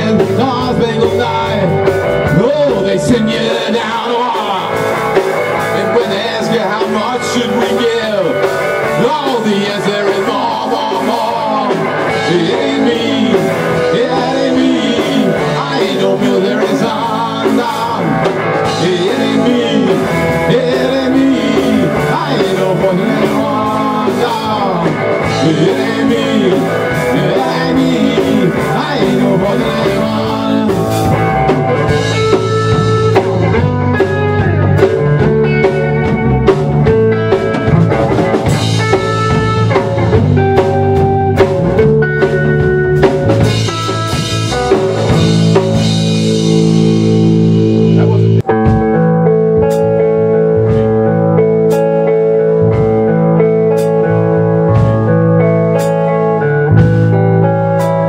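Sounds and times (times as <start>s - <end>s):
lead guitar bent sliding notes: 0.0s - 58.0s
live rock band playing: 0.0s - 58.0s.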